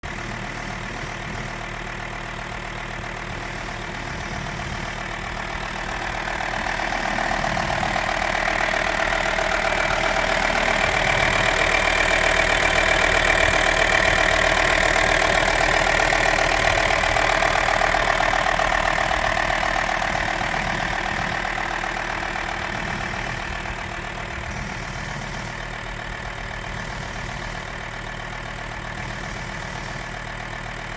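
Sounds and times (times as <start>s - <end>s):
van engine idling: 0.0s - 30.9s.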